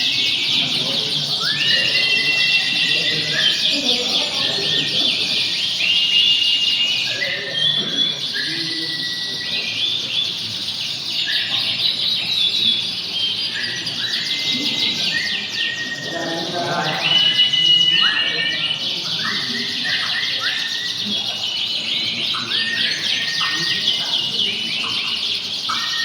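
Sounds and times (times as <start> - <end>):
canaries singing trills: 0.0 - 26.0.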